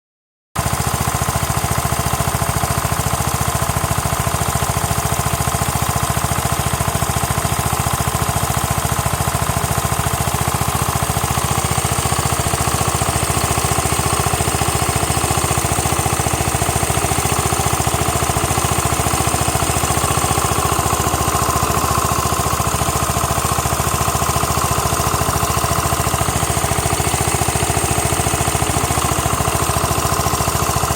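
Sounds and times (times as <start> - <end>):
scooter engine knocking clatter: 0.6 - 30.9.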